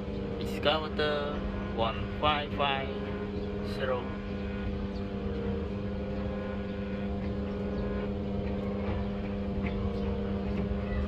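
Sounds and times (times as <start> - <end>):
low rumble: 0.0 - 11.0
steady engine-like hum: 0.0 - 11.0.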